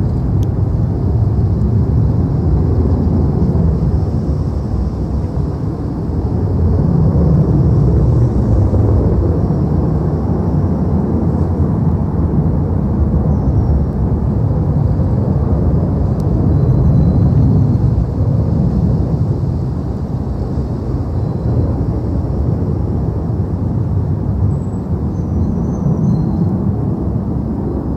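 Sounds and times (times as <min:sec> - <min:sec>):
jet fighter roaring overhead: 0:00.0 - 0:27.9.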